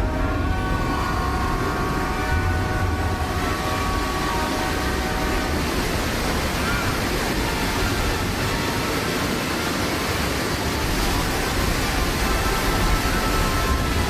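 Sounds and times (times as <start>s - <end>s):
water rushing and pouring: 0.0s - 14.0s.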